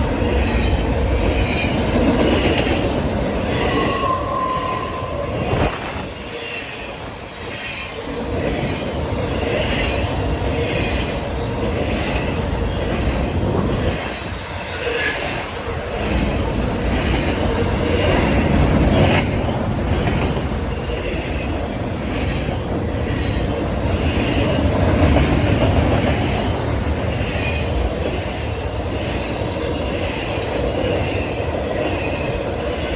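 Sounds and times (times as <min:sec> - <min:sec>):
train rumbling past: 0:00.0 - 0:32.9.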